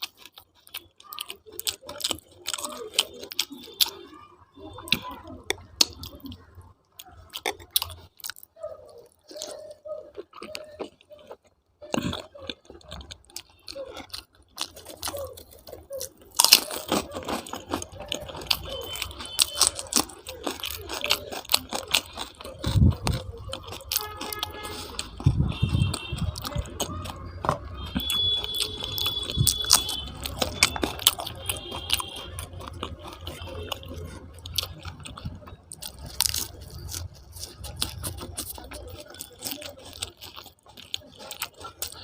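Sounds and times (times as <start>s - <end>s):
eating clicks: 0.0s - 42.0s
person chewing and crunching food: 0.0s - 42.0s.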